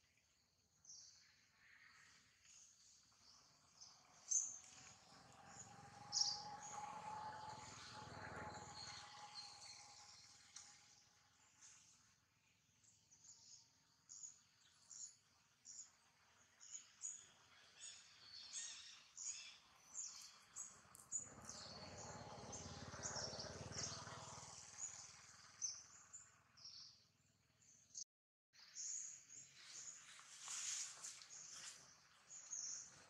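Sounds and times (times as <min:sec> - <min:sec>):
small birds chirping: 0:00.0 - 0:28.0, 0:28.6 - 0:33.0.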